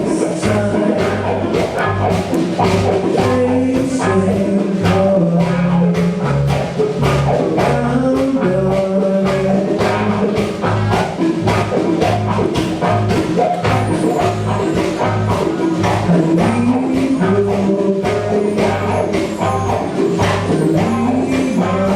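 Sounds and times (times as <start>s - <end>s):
band playing: 0.0s - 21.9s.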